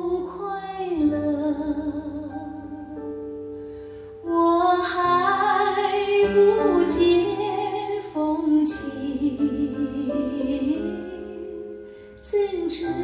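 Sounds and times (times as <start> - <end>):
pop ballad over speakers: 0.0 - 13.0.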